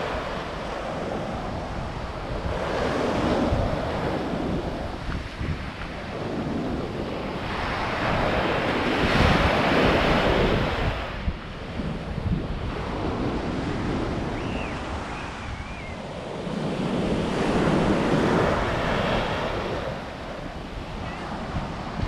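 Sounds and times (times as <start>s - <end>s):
small waves breaking on sand: 0.0s - 22.0s
wind buffeting microphone: 0.0s - 22.0s.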